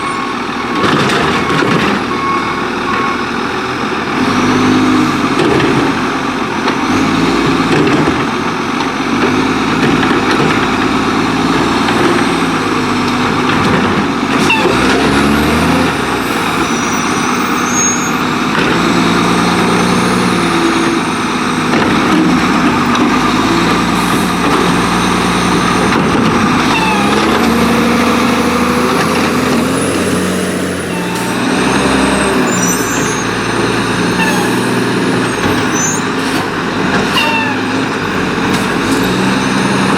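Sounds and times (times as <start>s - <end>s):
garbage truck diesel engine revving: 0.0s - 39.9s.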